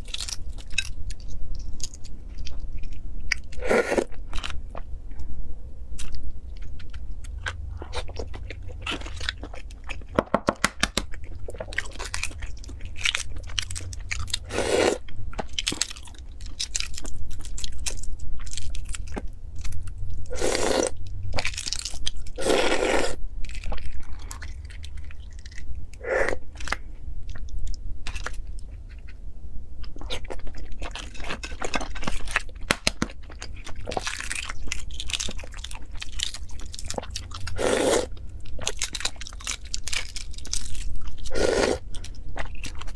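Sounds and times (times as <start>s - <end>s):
chewing: 6.0s - 10.2s, 11.0s - 29.2s, 29.8s - 42.9s.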